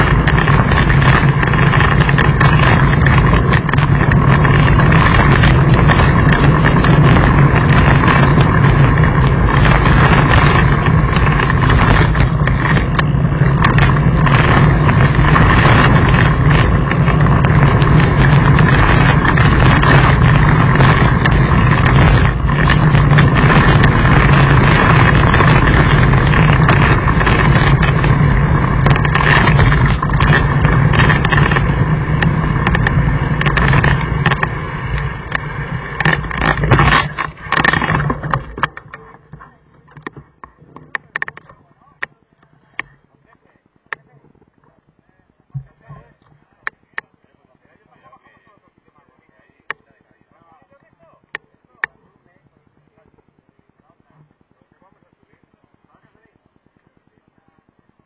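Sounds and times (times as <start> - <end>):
tyres on gravel: 0.0 - 53.1
dirt bike engine running: 0.0 - 58.0
wind: 0.0 - 58.0.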